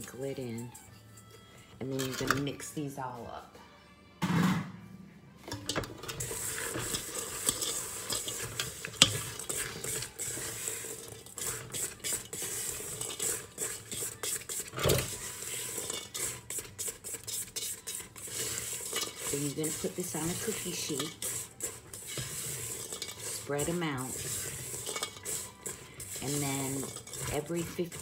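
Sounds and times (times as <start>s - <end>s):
nuts stirred in metal pot: 0.0s - 3.0s, 5.4s - 28.0s.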